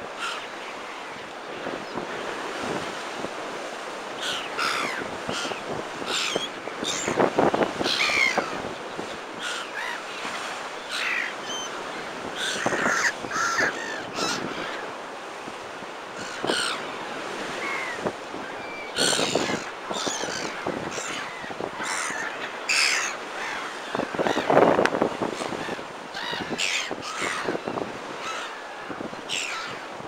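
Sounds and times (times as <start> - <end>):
gulls calling: 0.0 - 30.0.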